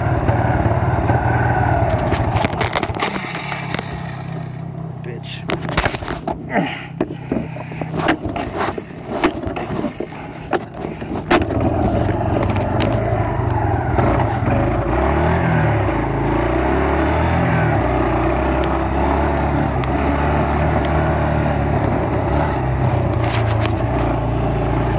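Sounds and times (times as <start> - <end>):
off-road vehicle engine running: 0.0 - 24.9.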